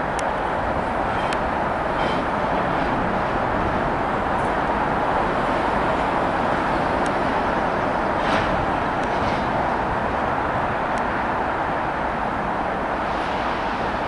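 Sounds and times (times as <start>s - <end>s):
steady outdoor roar: 0.0s - 14.0s.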